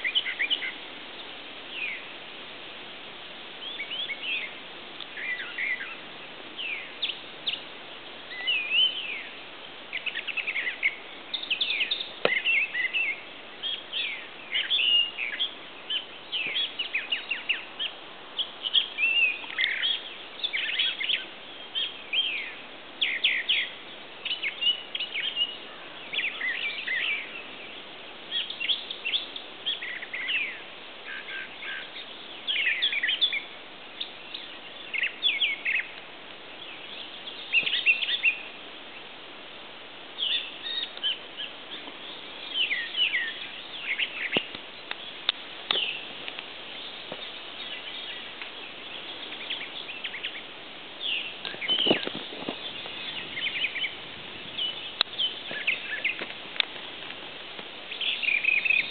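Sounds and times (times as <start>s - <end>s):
songbirds singing: 0.0s - 58.9s
steady hiss: 0.0s - 58.9s.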